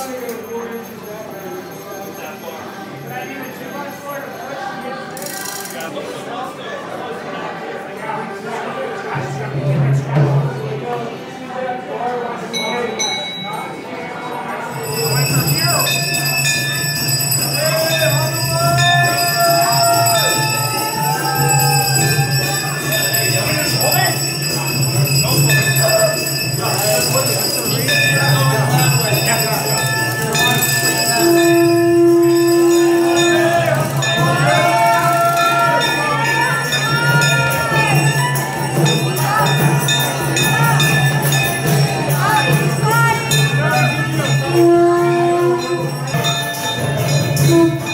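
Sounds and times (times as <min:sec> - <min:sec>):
bells ringing: 0:00.0 - 0:05.7, 0:12.4 - 0:47.9.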